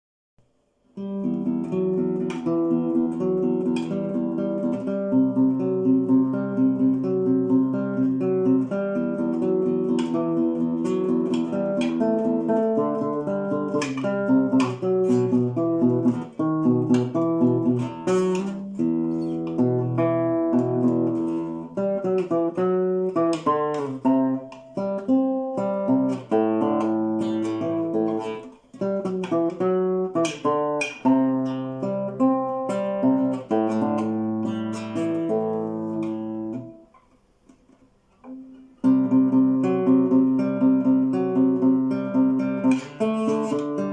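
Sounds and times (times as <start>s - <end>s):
acoustic guitar playing: 0.9s - 43.9s.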